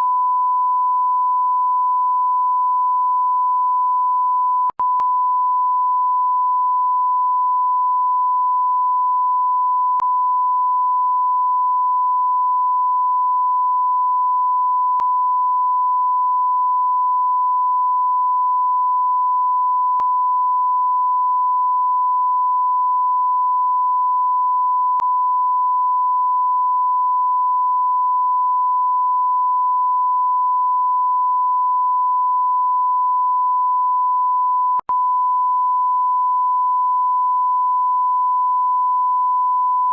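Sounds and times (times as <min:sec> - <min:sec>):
censor bleep tone: 0:00.0 - 0:39.9.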